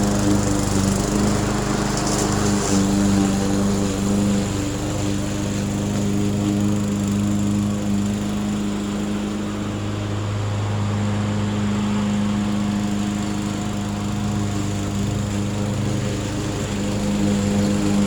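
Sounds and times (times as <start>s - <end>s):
lawn mower running: 0.0s - 18.0s.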